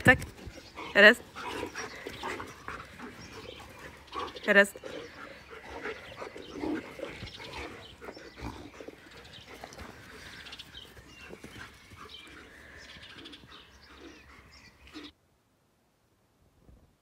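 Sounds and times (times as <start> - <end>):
dogs panting: 0.0 - 15.1.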